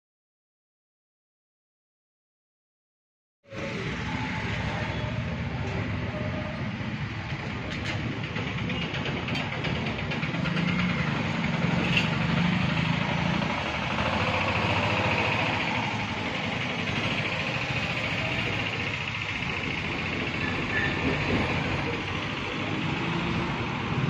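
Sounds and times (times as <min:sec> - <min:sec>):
road traffic rumble: 0:03.5 - 0:24.0.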